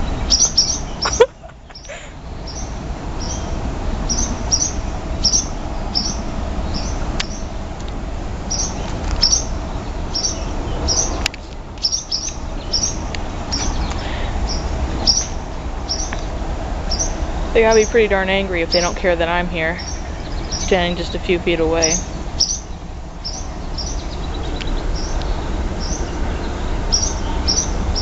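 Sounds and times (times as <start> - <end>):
swallows alarm calls: 0.0 - 7.6, 8.5 - 11.2, 11.8 - 28.0.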